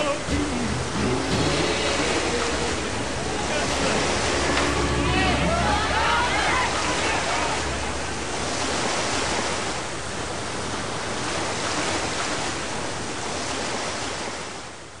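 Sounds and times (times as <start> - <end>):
rushing stormy waves: 0.0 - 15.0.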